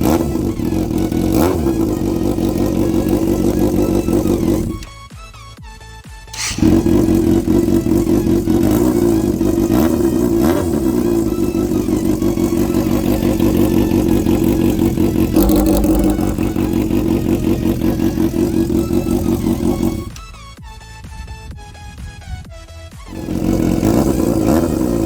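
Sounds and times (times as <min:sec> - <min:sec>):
motorcycle engine loud exhaust: 0:00.0 - 0:25.0.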